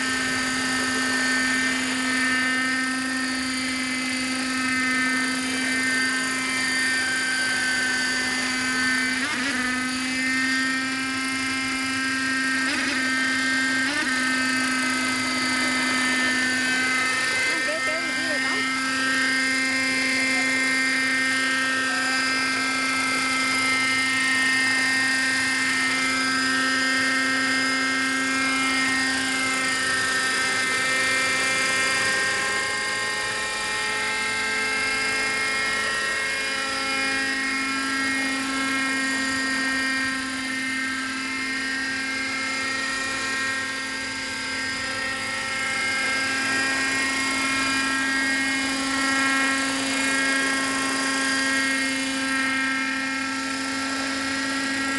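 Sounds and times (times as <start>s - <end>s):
model helicopter rotor whine: 0.0s - 54.9s.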